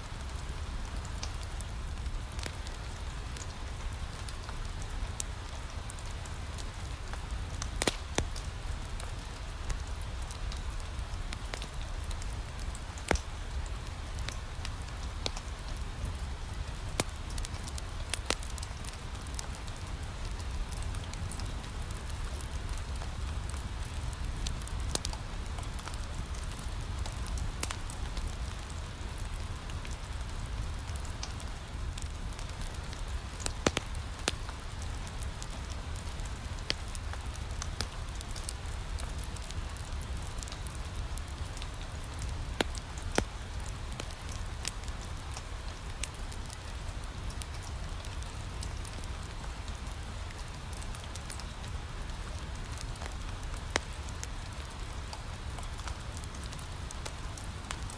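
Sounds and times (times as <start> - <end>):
rain pattering on a window: 0.0 - 57.9
wood fire crackling and popping: 0.0 - 57.9.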